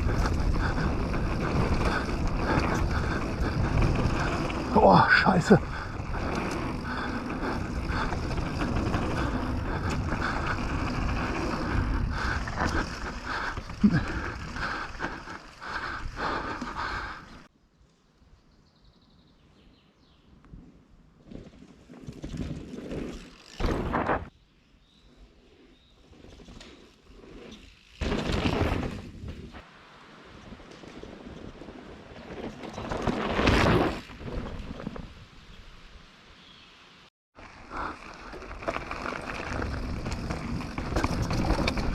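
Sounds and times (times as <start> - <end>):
mountain bike rolling on dirt: 0.0 - 18.1, 20.5 - 36.0, 37.4 - 41.9.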